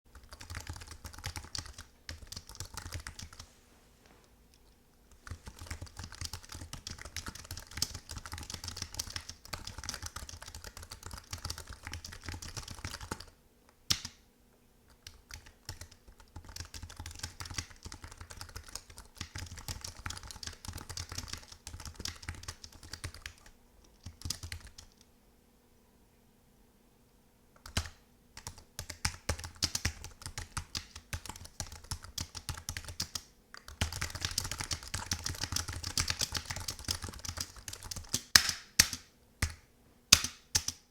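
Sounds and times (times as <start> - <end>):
fast typing on keyboard: 0.1 - 3.4, 5.1 - 14.1, 15.0 - 25.0, 27.6 - 40.9.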